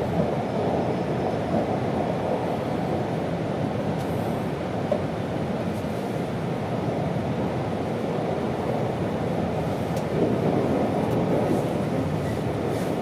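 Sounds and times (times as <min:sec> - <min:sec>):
train interior rushing hum: 0:00.0 - 0:13.0.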